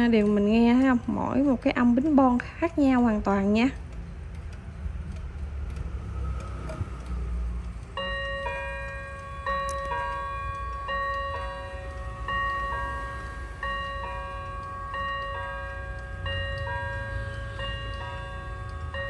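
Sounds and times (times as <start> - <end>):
wall clock chiming on gong rods: 0.0 - 4.0, 5.7 - 19.0.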